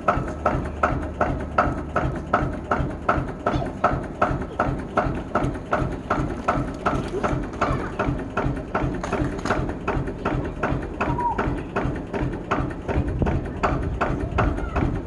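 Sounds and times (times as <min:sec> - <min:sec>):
tractor engine knocking at idle: 0:00.0 - 0:15.0.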